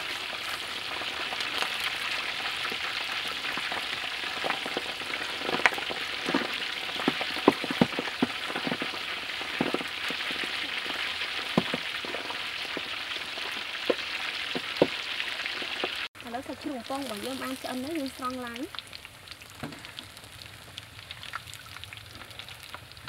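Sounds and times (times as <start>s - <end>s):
meat deep-frying in oil: 0.0s - 23.0s.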